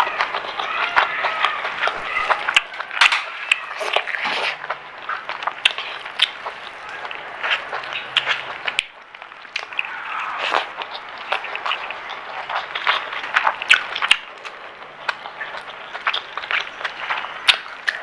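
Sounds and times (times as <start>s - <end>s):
chewing crispy fried food: 0.0s - 18.0s.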